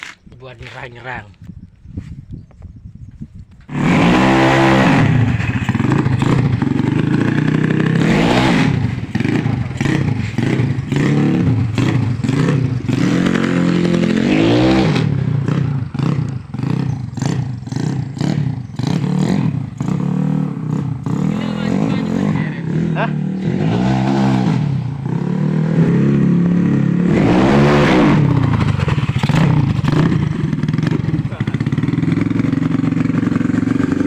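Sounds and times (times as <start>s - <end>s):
scooter engine revving: 3.7s - 34.0s.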